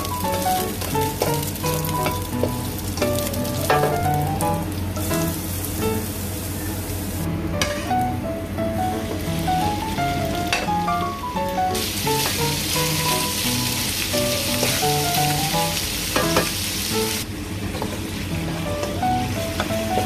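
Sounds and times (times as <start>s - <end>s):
light background music: 0.0s - 6.1s, 7.3s - 17.2s, 18.4s - 20.0s
meat sizzling in a wok: 0.0s - 8.1s, 9.0s - 20.0s.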